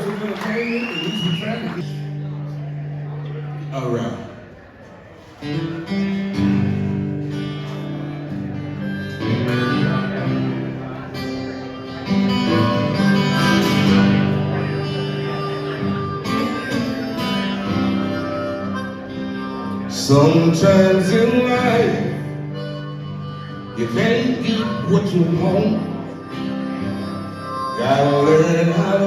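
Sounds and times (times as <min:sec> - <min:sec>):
acoustic guitar blues: 0:05.4 - 0:29.0.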